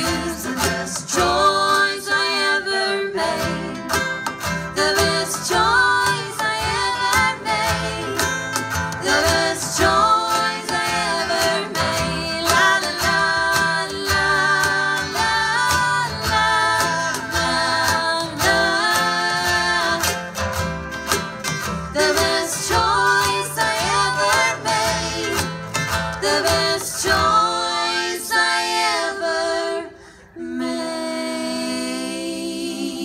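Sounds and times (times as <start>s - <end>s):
woman singing: 0.0s - 20.4s, 22.0s - 25.6s, 26.2s - 33.0s
acoustic guitar strumming: 0.0s - 29.5s.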